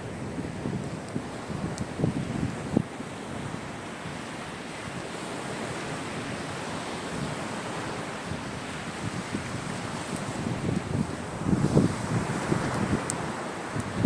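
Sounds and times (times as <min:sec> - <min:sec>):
sea surf on shore: 0:00.0 - 0:14.0
wind gusts on microphone: 0:00.0 - 0:14.0.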